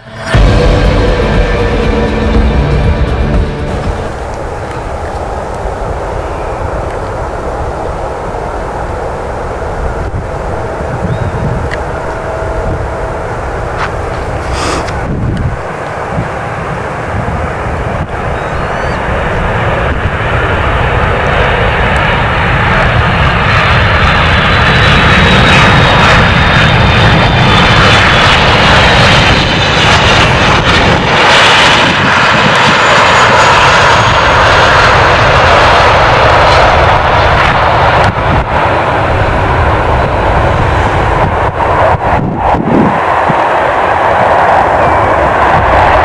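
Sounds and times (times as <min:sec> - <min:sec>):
jet airliner rumble: 0:00.0 - 0:46.0
jet engine whine: 0:00.0 - 0:46.0.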